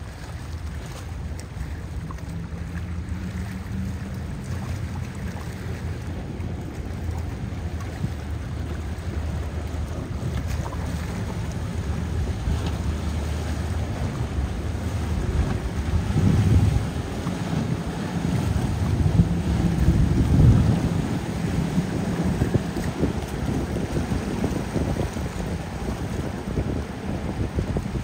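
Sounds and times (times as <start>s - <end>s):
boat engine drone: 0.0s - 28.0s
rush of wake and waves: 0.0s - 28.0s
wind buffeting microphone: 0.1s - 28.0s.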